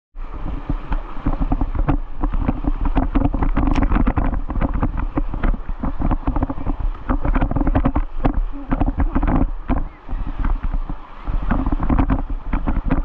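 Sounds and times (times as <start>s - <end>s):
whitewater rushing: 0.2s - 13.0s
wind buffeting microphone: 0.2s - 13.0s.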